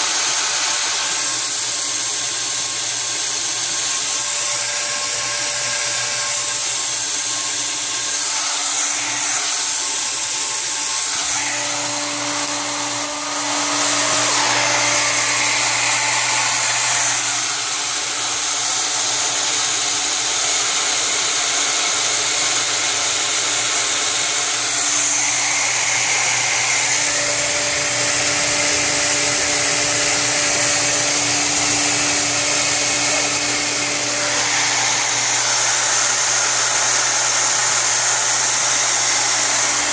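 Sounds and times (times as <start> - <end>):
water pump whirring hum: 0.0 - 39.9.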